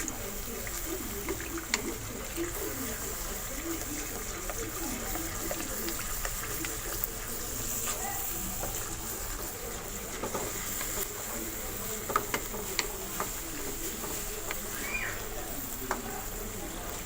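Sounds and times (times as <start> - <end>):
food hissing in a pan: 0.0 - 17.0.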